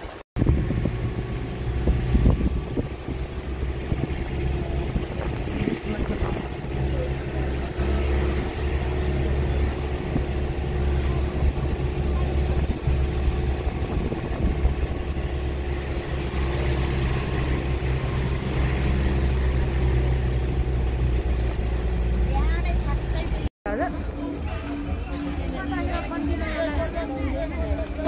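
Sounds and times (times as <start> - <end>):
vehicle motor droning: 0.0 - 28.0.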